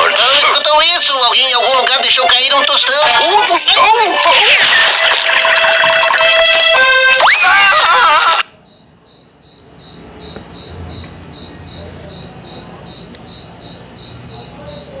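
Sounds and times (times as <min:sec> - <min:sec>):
crickets chirping: 0:00.0 - 0:06.7, 0:07.3 - 0:15.0.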